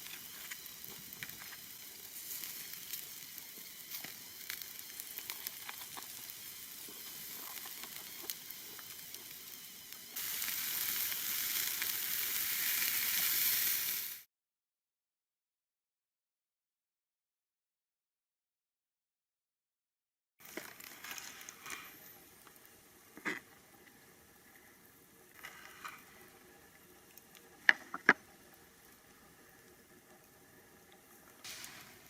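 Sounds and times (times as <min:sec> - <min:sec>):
food sizzling in a pan: 0:00.0 - 0:14.3, 0:20.4 - 0:32.0.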